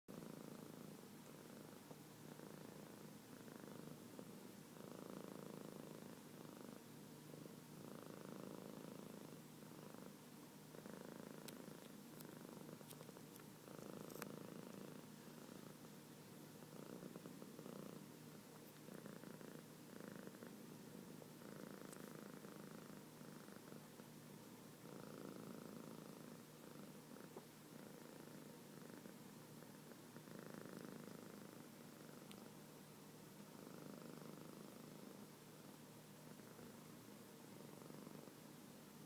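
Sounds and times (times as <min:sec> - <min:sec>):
cat purring: 0:00.1 - 0:39.0.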